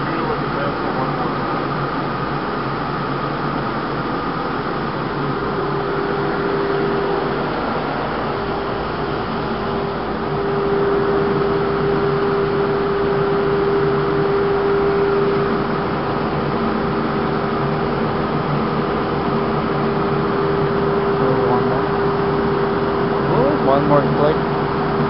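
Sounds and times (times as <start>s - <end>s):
belt sander machine hum: 0.0s - 25.0s.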